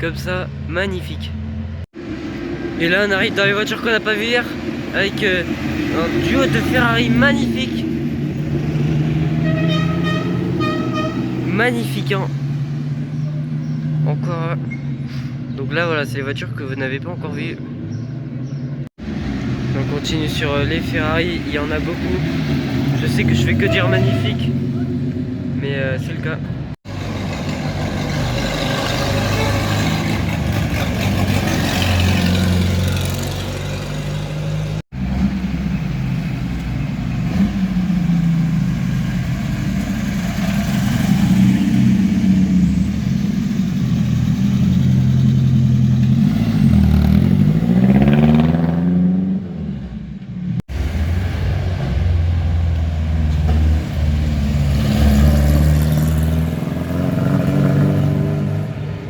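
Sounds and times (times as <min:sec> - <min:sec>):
car engines revving: 0:01.3 - 0:16.6, 0:17.6 - 0:59.0.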